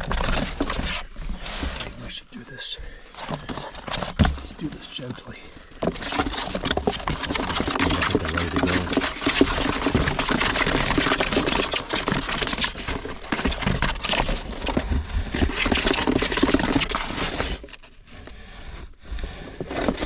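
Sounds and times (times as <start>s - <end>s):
small scrapes and taps: 0.0s - 2.1s, 3.0s - 20.0s
rustling and crinkling: 0.0s - 20.0s.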